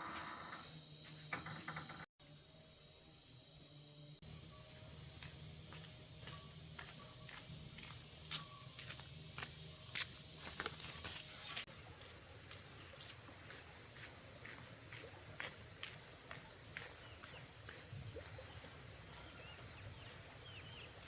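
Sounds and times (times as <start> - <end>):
insects droning high-pitched: 0.0 - 11.7, 12.8 - 21.0.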